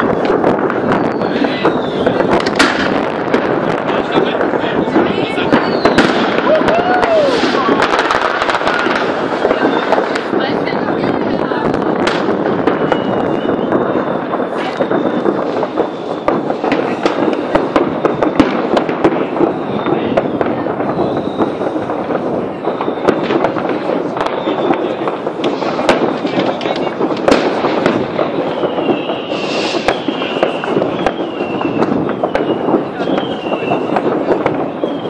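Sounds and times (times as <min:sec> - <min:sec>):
firecrackers crackling: 0:00.0 - 0:35.0
firework whistles: 0:00.0 - 0:35.0
loud firework reports: 0:00.0 - 0:35.0.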